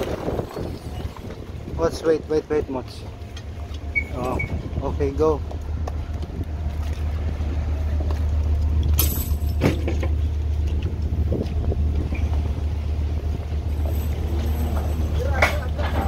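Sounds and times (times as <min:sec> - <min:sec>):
ship engine and deck machinery drone: 0:00.0 - 0:16.0.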